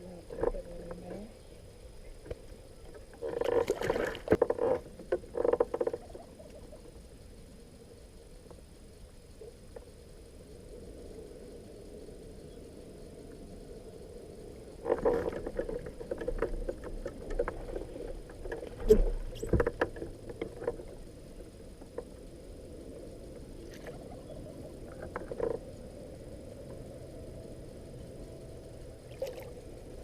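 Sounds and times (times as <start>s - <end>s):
low boat hum: 0.0s - 30.0s
water noise: 0.0s - 30.0s.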